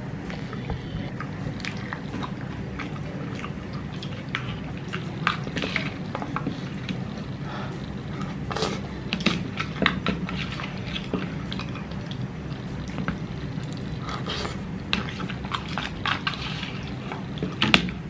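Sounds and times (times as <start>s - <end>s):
wet chewing: 0.3s - 18.0s.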